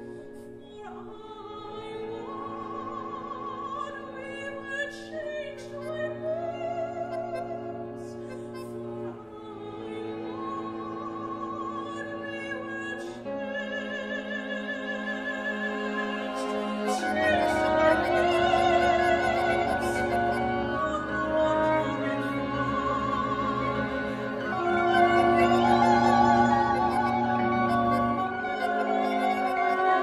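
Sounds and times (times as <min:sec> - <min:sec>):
bowed string chords: 0:00.0 - 0:30.0
soprano singing with vibrato: 0:00.0 - 0:30.0.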